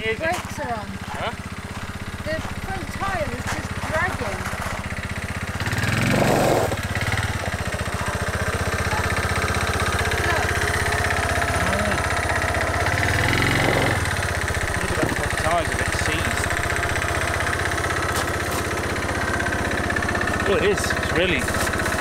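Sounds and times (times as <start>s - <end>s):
quad engine running: 0.0s - 22.0s
tyres on gravel: 0.0s - 22.0s.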